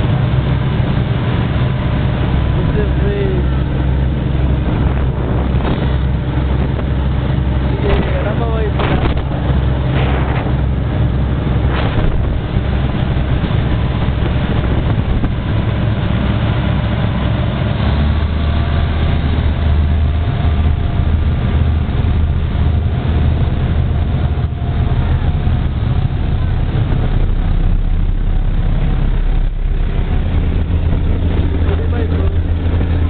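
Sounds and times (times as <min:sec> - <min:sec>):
motorboat engine rumble: 0:00.0 - 0:33.0
rushing wake water: 0:00.0 - 0:33.0.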